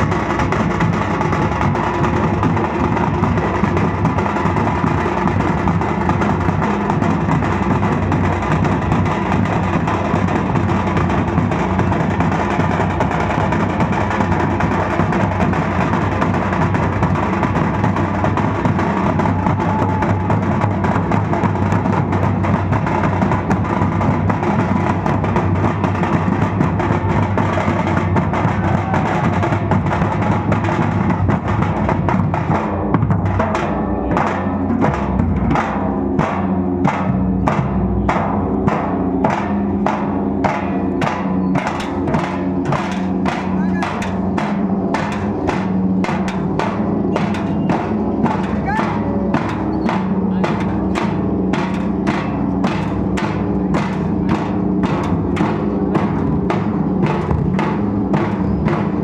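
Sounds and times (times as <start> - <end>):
ensemble drumming: 0.0 - 59.0.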